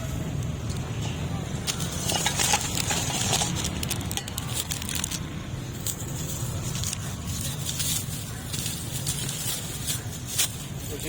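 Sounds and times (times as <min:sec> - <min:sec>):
traffic rumble: 0:00.0 - 0:11.0
handling crackling and clicking: 0:00.4 - 0:11.0.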